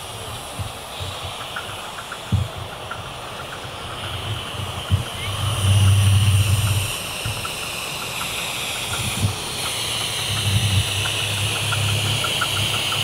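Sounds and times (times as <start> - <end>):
light ticks of locomotive: 0.0 - 13.0
locomotive low rumble: 0.0 - 13.0
steam hissing: 0.0 - 13.0.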